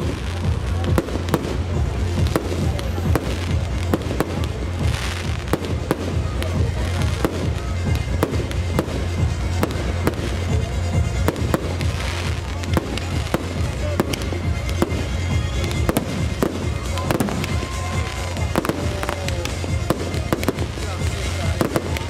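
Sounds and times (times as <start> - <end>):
fireworks bangs: 0.0 - 22.0
fireworks crackling: 0.0 - 22.0
music with deep bass: 0.0 - 22.0.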